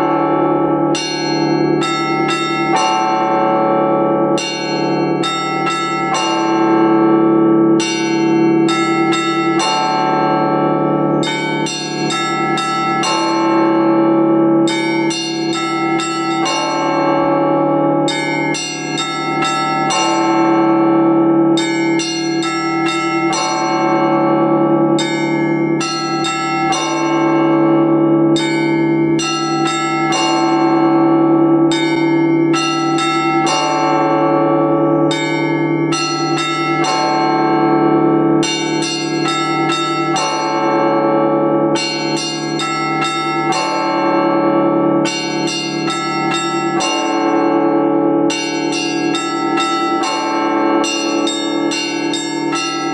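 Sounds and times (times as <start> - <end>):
low bell tone humming: 0.0 - 52.9
small church bells ringing: 0.0 - 52.9.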